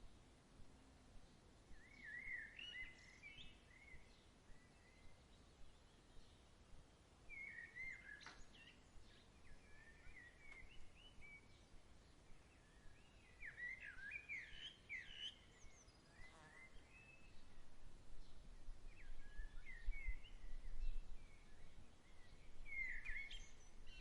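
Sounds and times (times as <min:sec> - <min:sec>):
faint outdoor hiss: 0:00.0 - 0:24.0
songbirds chirping: 0:00.0 - 0:24.0.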